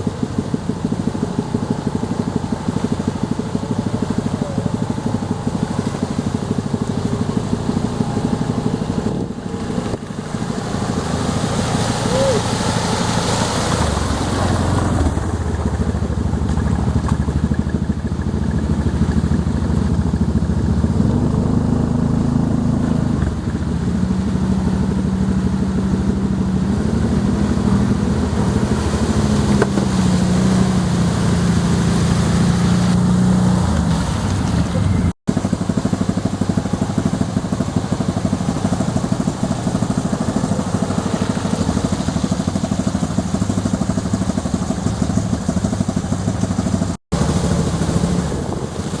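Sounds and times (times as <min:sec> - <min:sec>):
quad engine running: 0:00.0 - 0:49.0.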